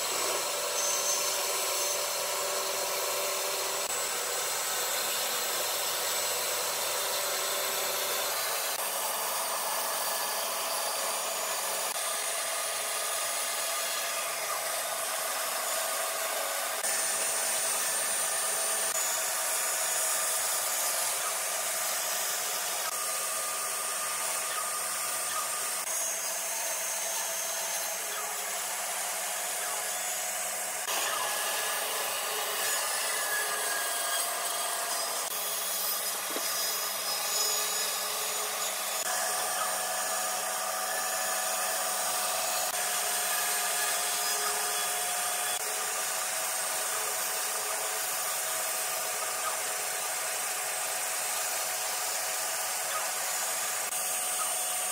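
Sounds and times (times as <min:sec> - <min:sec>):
bandsaw cutting wood: 0:00.0 - 0:54.9.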